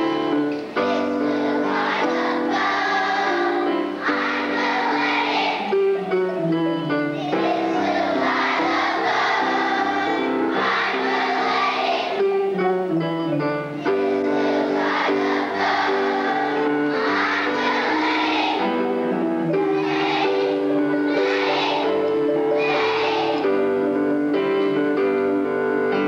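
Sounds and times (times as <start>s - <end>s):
children's choir singing: 0.0s - 12.9s, 13.7s - 25.3s
instrumental accompaniment: 0.0s - 26.0s.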